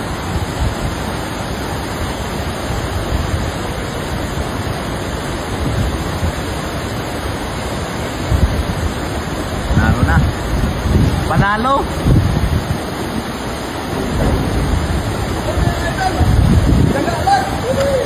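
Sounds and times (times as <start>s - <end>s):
river rushing over rocks: 0.0s - 18.0s
wind rumbling on microphone: 0.0s - 18.0s.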